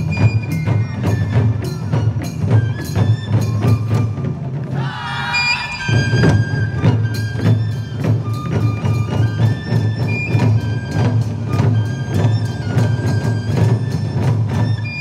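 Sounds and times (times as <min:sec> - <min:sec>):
drums in driving rhythm: 0:00.0 - 0:15.0.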